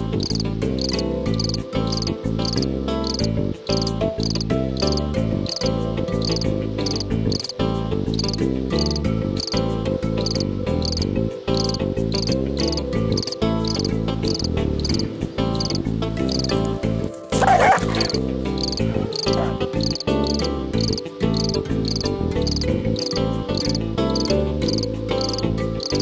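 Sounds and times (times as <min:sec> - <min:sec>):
background music of held notes: 0:00.0 - 0:26.0
high cricket-like chirp: 0:00.2 - 0:16.7, 0:17.4 - 0:26.0.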